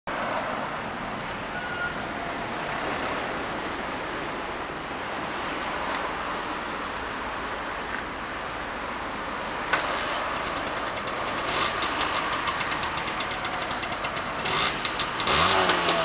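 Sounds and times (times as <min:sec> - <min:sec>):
road traffic passing: 0:00.1 - 0:16.0.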